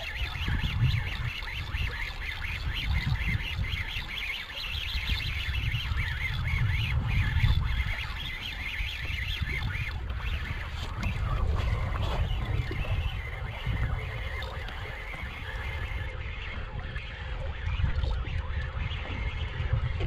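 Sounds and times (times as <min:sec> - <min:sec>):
fishing reel cranking: 0:00.0 - 0:16.1
wind on microphone: 0:00.0 - 0:20.0.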